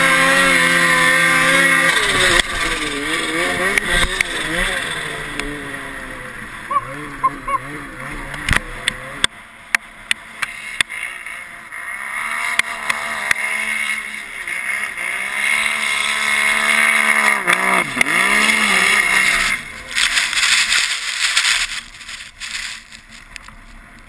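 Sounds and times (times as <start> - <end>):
snowmobile engine at high revs: 0.0 - 24.0.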